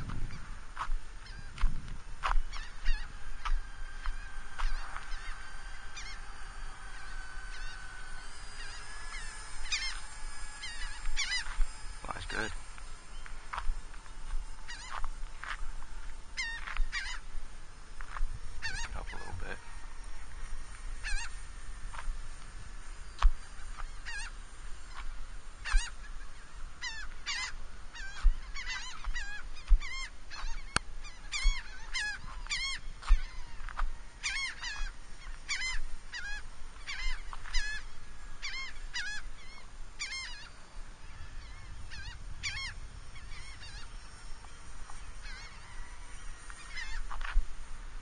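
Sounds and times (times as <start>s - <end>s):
geese honking: 0.0s - 47.4s.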